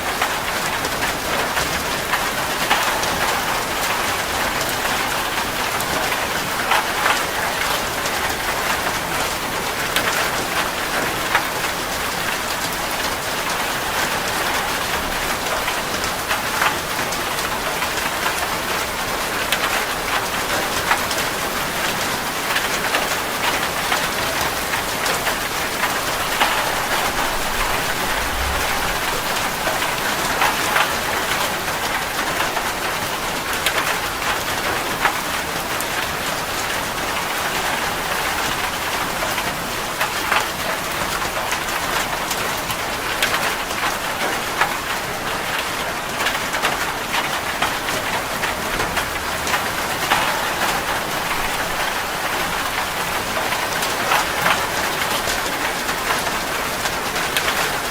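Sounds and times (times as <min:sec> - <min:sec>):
raindrops ticking: 0:00.0 - 0:57.9
steady rain patter: 0:00.0 - 0:57.9.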